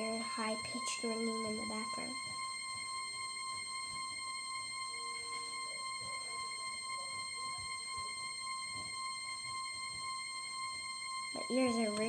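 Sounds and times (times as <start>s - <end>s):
high-pitched buzzy electronic tone: 0.0s - 12.0s.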